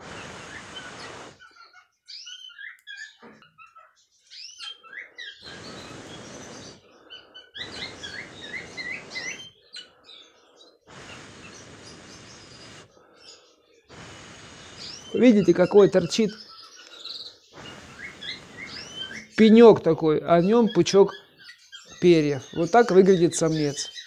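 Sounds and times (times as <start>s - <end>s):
canaries chirping: 0.0s - 24.0s.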